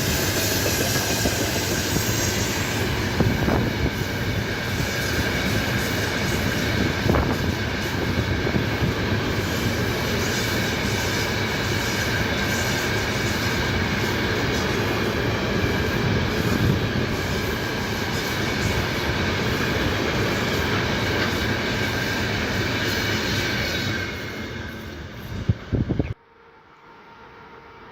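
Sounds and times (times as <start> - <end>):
freight train wheels rumbling: 0.0 - 26.2.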